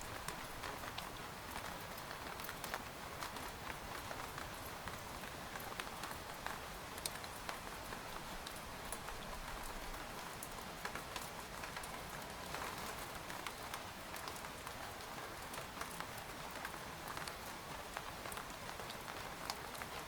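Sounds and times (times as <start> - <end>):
rain pattering on tent fabric: 0.0 - 20.0.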